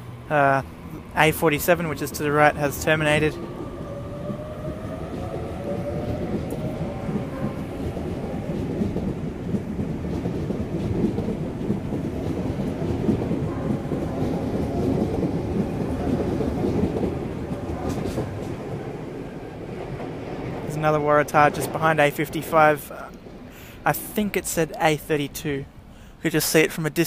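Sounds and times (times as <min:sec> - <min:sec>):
train clatter: 0:00.0 - 0:25.7
electric train rumbling: 0:00.0 - 0:27.0.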